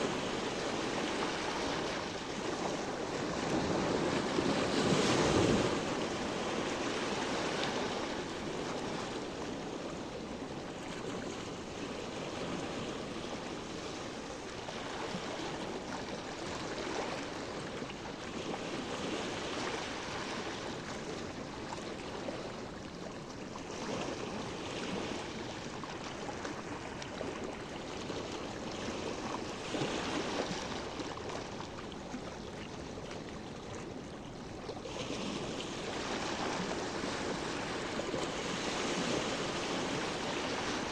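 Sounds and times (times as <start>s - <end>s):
sea water lapping: 0.0s - 40.9s.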